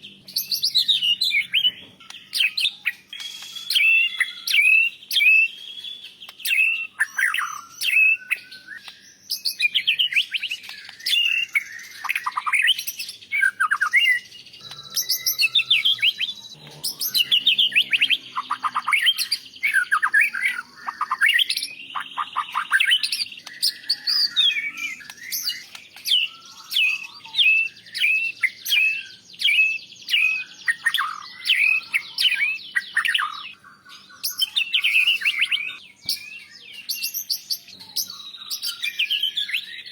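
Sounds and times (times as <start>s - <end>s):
bird singing whistled song: 0.0s - 39.9s
repeated sharp bird notes: 0.0s - 39.9s.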